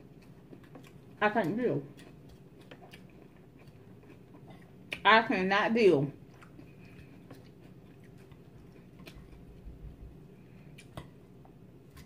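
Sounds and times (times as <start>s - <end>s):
faint chewing: 0.0s - 5.3s, 6.1s - 12.0s.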